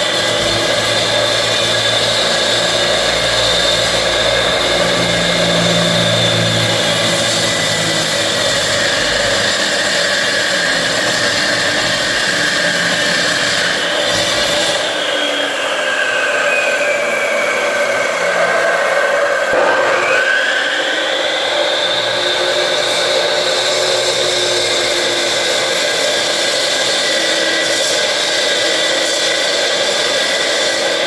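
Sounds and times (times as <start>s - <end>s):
electric saw whining: 0.0s - 31.0s.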